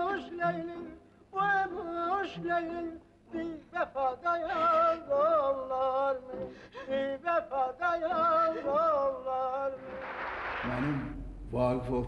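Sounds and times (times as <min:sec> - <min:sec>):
person singing opera: 0:00.0 - 0:10.0.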